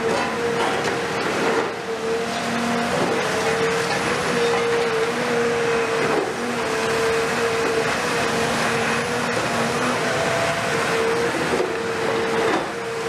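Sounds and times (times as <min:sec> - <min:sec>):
excavator engine and hydraulics whining: 0:00.0 - 0:13.0.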